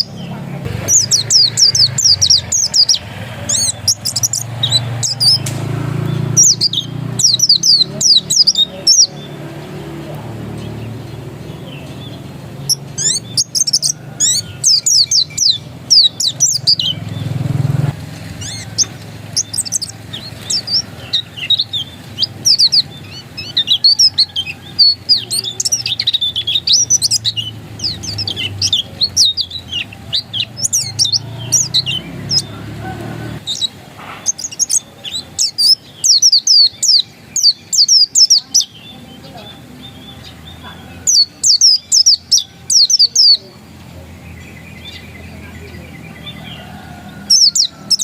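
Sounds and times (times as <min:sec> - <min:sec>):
bird fast high chirps: 0:00.0 - 0:38.9, 0:39.6 - 0:43.4.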